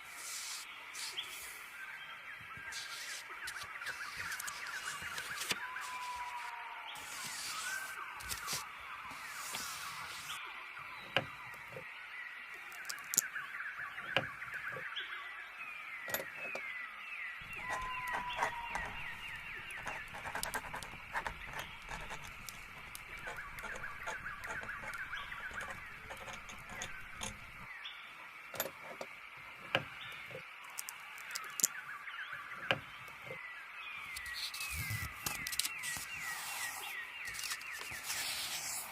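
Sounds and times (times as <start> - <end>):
small birds twittering: 0.0 - 38.9.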